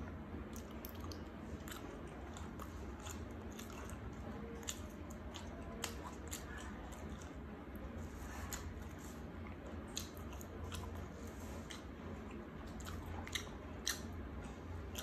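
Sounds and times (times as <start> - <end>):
chewing with wet clicks: 0.0 - 15.0.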